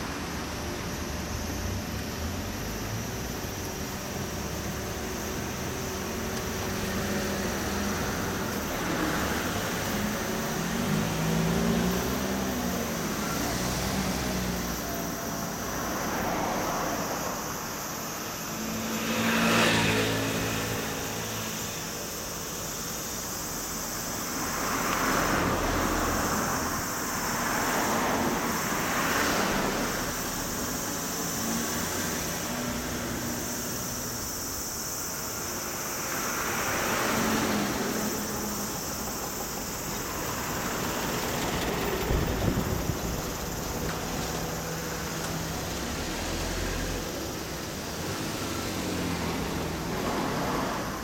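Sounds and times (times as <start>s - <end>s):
vehicles passing by: 0.0s - 51.0s.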